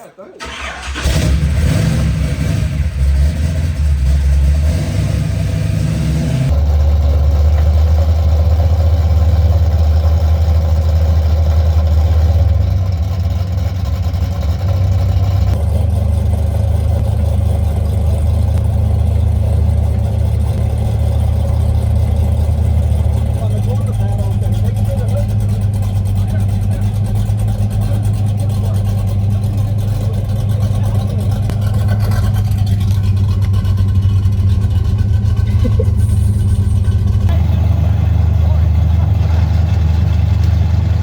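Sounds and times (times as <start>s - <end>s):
car engine idling: 0.4s - 41.0s.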